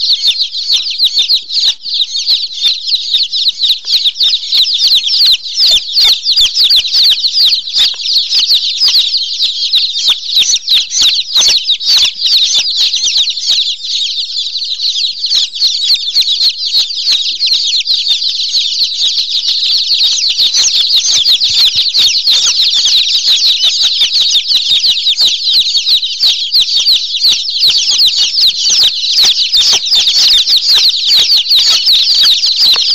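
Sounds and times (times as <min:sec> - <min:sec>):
small birds chirping chorus: 0:00.0 - 0:32.9.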